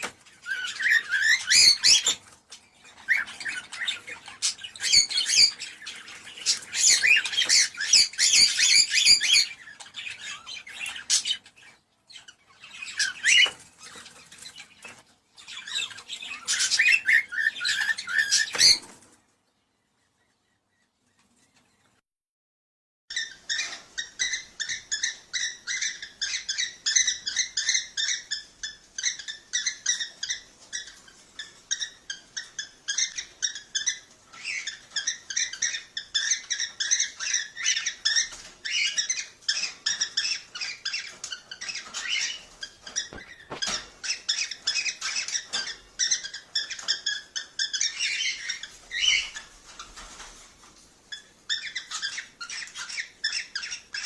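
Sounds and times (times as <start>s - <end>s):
cockatiels chirping: 0.0s - 19.2s, 23.1s - 54.0s.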